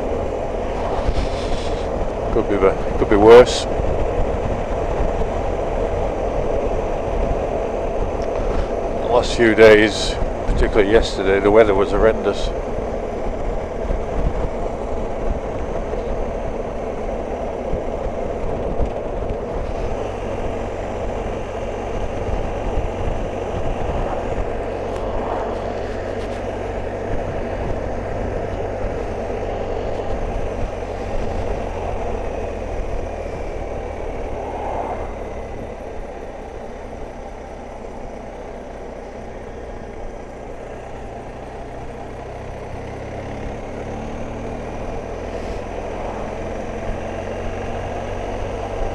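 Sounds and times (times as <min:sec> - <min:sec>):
wind rush: 0:00.0 - 0:37.3, 0:45.1 - 0:48.9
motorcycle engine: 0:00.0 - 0:48.9.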